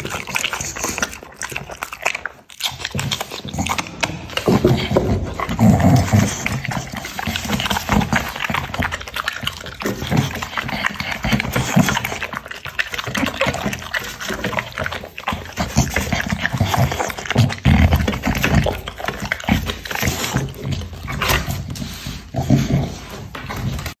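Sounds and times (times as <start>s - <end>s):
dog chewing and licking: 0.0s - 24.0s.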